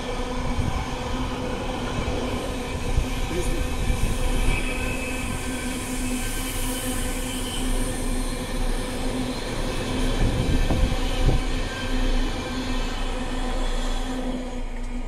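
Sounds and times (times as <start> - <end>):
steady whining tone: 0.0 - 15.0
train wheels rolling on rails: 0.0 - 15.0.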